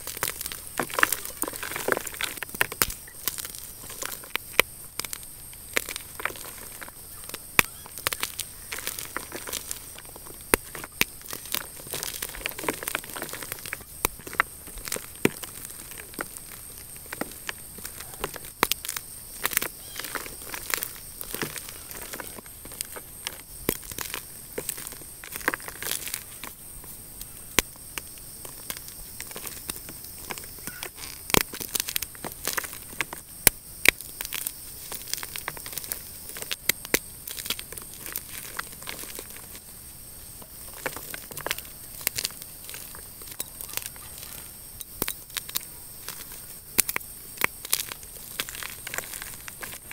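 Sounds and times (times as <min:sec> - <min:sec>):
chalk chunks snapping: 0:00.0 - 0:39.7, 0:40.3 - 0:49.9
chalk crushed between fingers: 0:00.0 - 0:39.7, 0:40.4 - 0:49.9.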